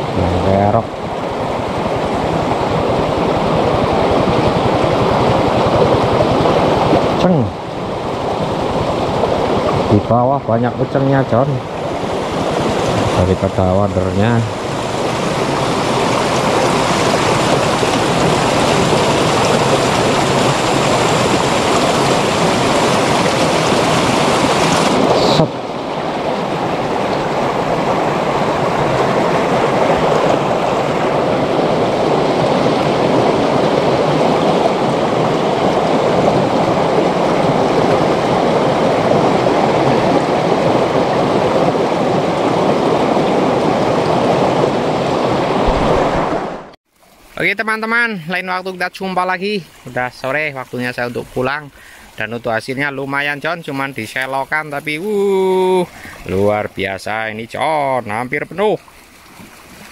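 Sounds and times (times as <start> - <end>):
water rushing through ditch: 0.0 - 59.9.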